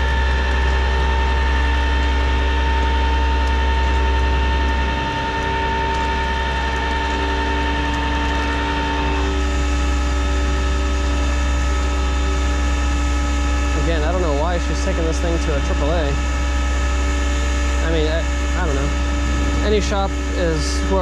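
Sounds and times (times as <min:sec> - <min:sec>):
hydraulic winch whine: 0:00.0 - 0:21.0
truck engine low drone: 0:00.0 - 0:21.0.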